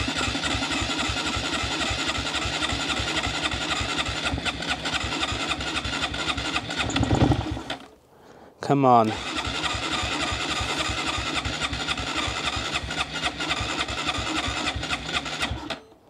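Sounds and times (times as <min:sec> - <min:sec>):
electric starter cranking engine: 0:00.0 - 0:07.9, 0:09.1 - 0:16.0.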